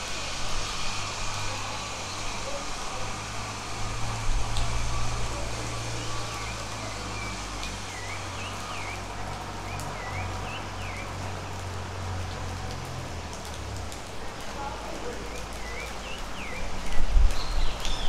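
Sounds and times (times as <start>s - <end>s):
rain hiss: 0.0s - 18.0s.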